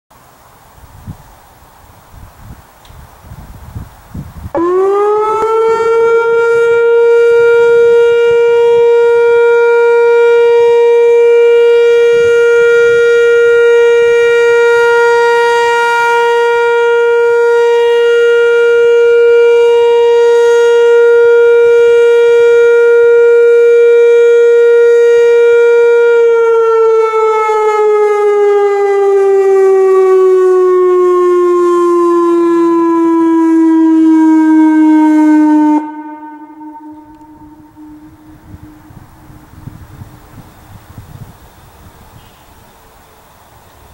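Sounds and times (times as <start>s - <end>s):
electronic warning siren: 4.5s - 40.2s.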